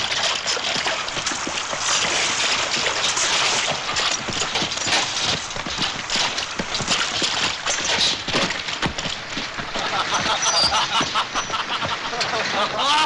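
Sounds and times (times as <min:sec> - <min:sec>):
splashing footsteps in water: 0:00.0 - 0:13.0
stream water rushing: 0:00.0 - 0:13.0.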